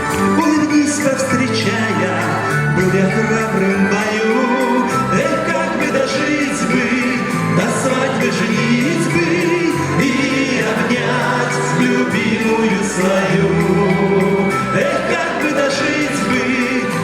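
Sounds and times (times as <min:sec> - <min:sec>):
band playing old song: 0:00.0 - 0:17.0
bass line: 0:00.0 - 0:17.0
person singing wavering notes: 0:00.0 - 0:17.0.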